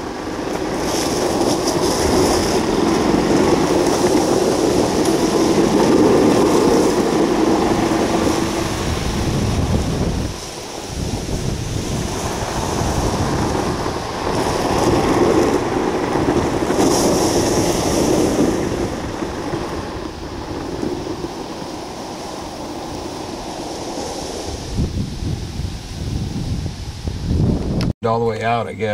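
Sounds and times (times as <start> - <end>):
golf cart driving: 0.0 - 27.2.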